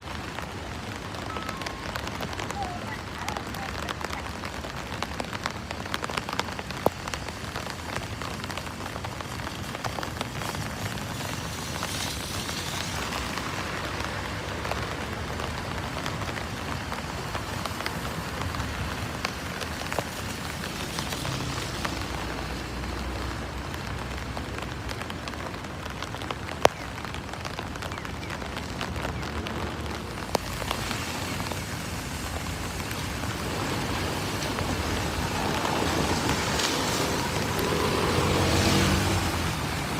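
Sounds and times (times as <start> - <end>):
heavy rain falling: 0.0 - 39.9
raindrops pattering close by: 0.0 - 39.9.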